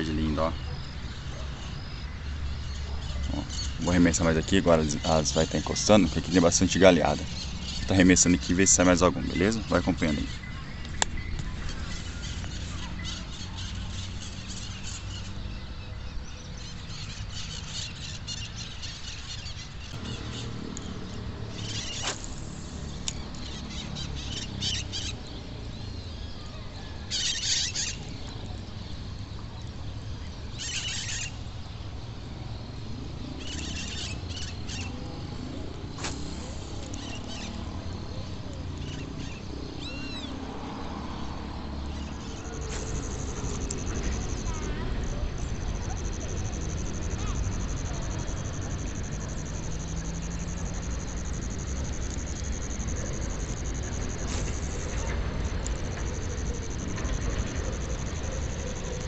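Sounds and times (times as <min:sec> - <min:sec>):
birds chirping: 0:00.0 - 0:29.1, 0:33.2 - 0:59.0.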